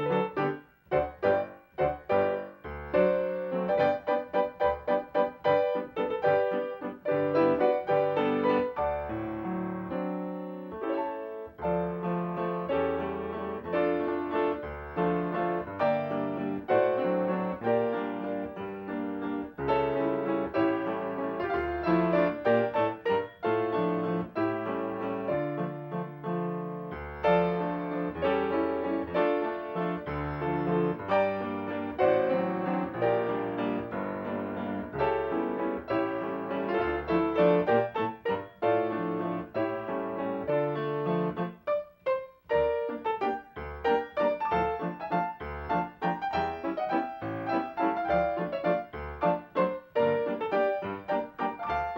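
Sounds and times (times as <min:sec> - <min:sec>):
piano music: 0:00.0 - 0:51.9.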